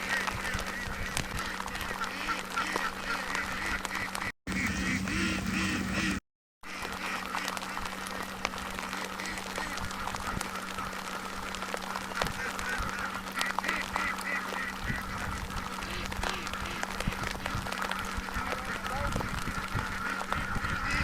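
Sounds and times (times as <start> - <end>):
ducks quacking: 0.0 - 21.0
steady low hum: 0.0 - 21.0.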